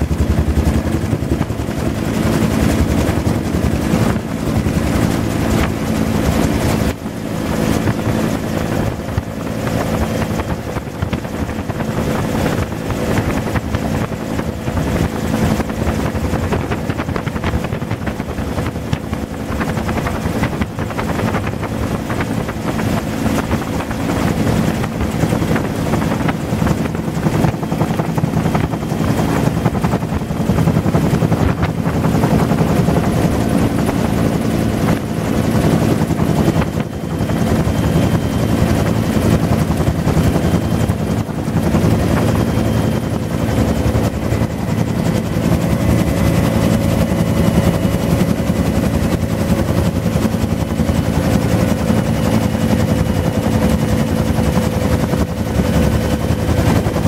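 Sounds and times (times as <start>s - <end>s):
helicopter rotor beating: 0.0s - 57.0s
turbine engine drone: 0.0s - 57.0s.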